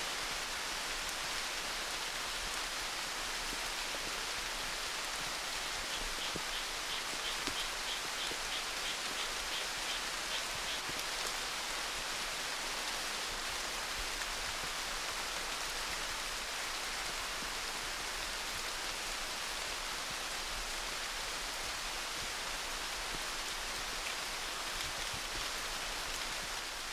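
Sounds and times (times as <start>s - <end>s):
steady rainfall: 0.0s - 26.9s.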